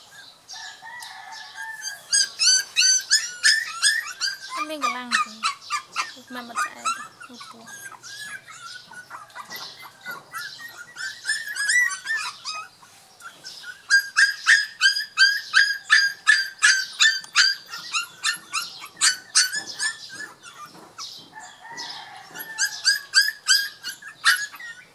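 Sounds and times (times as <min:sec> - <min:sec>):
puppy crying high-pitched squeals: 0:01.5 - 0:21.1, 0:21.7 - 0:24.9.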